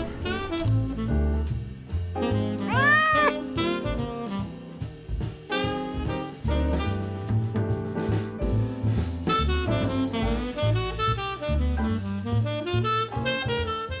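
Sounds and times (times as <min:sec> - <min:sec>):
jazzy tune with saxophone: 0:00.0 - 0:14.0.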